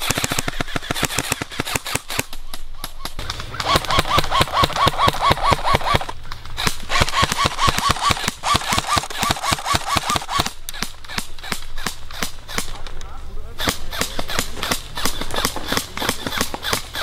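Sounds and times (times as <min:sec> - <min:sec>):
airsoft rifles firing: 0:00.0 - 0:13.0, 0:13.6 - 0:17.0.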